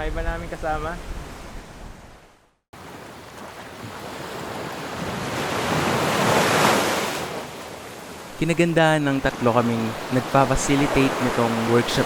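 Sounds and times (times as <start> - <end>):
surf on rocky shore: 0.0 - 12.0.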